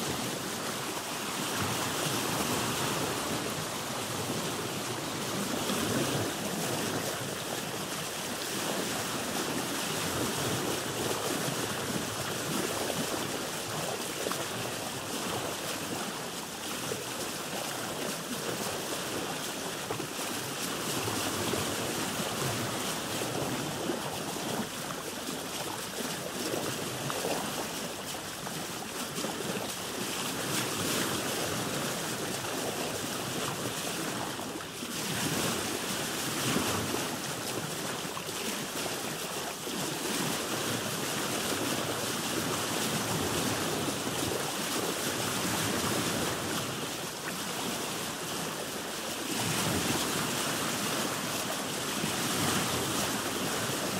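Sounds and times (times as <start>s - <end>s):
waves splashing around a boat: 0.0s - 53.9s.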